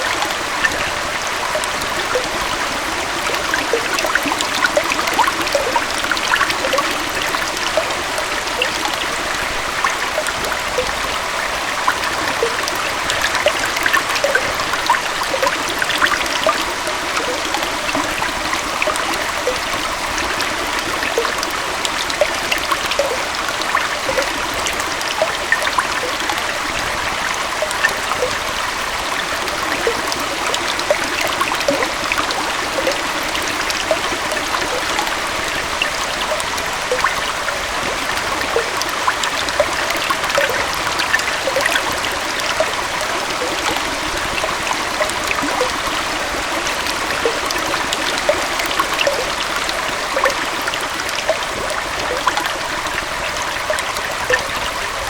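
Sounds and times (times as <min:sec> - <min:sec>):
waterfall and stream flowing: 0:00.0 - 0:55.0.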